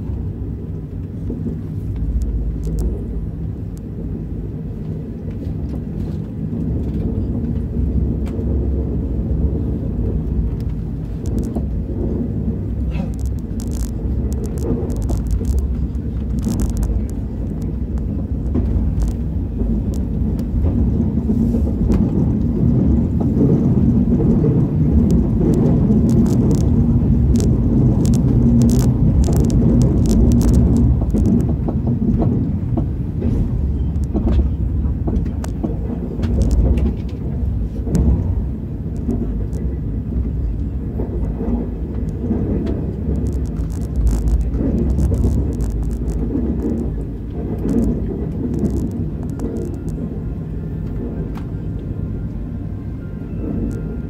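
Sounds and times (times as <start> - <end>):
train rumble from inside cabin: 0.0 - 54.0.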